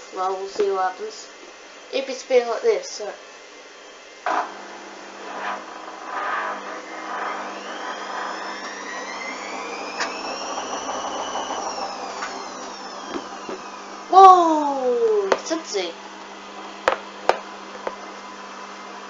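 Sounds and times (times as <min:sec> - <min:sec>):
steady hum: 0:00.0 - 0:19.0
washing machine motor whine: 0:00.0 - 0:19.0.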